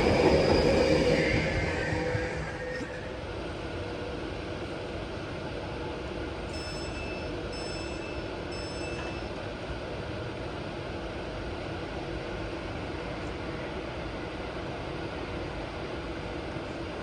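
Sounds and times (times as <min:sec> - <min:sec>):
train rumbling through station: 0:00.0 - 0:17.0.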